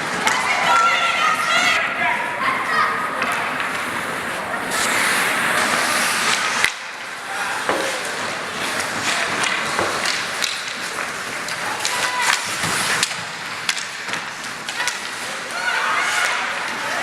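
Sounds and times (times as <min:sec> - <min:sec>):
hockey sticks and puck clacking: 0:00.0 - 0:01.7, 0:02.9 - 0:17.0
skates scraping ice: 0:00.0 - 0:17.0.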